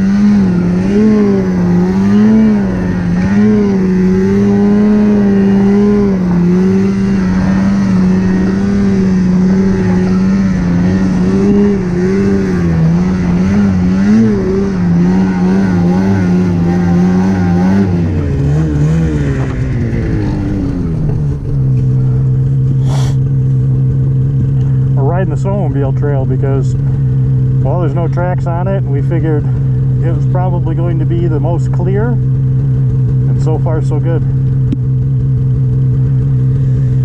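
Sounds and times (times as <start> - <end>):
snowmobile engine running: 0.0 - 37.0.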